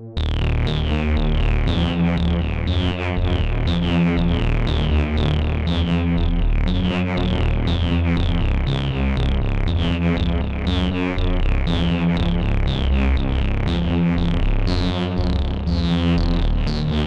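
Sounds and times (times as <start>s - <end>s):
low synth bass line: 0.0s - 17.0s.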